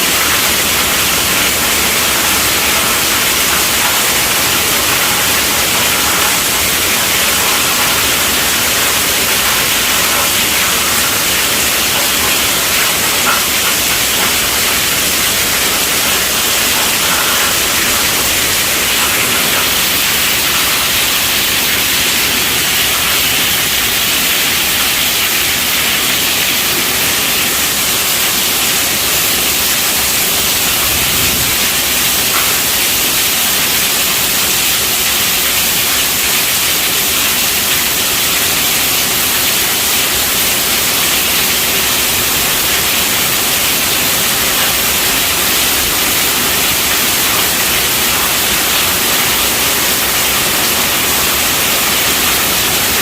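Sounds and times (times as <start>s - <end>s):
steady rainfall hiss: 0.0s - 53.0s.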